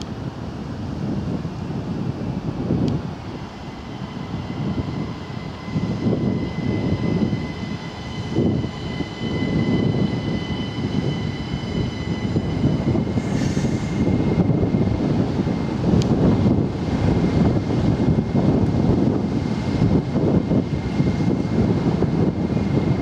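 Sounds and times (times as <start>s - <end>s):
electric train whine: 0.0s - 23.0s.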